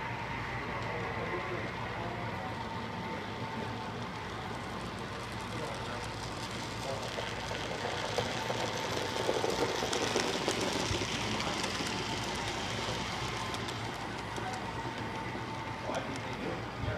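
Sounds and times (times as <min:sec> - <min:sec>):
wheels clicking on track: 0:00.0 - 0:16.8
model train rolling rumble: 0:00.0 - 0:16.9.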